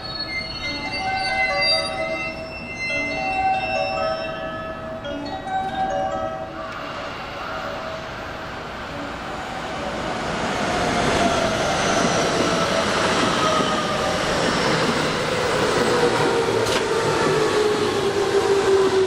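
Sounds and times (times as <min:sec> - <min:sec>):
electric train rumbling past: 0:00.0 - 0:19.0.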